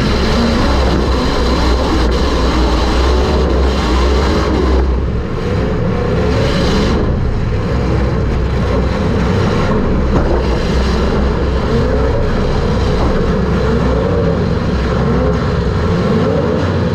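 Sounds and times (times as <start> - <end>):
race car engine from inside: 0.0 - 16.9.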